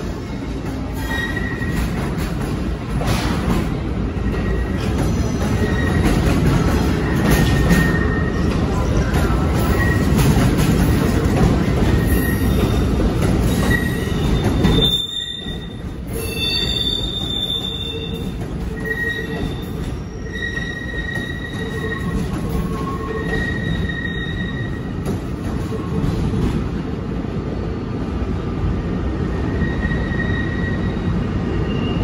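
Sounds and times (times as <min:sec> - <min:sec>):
train wheels squealing on rails: 0:00.0 - 0:26.6, 0:28.8 - 0:32.0
rumble of passing train cars: 0:00.0 - 0:32.0.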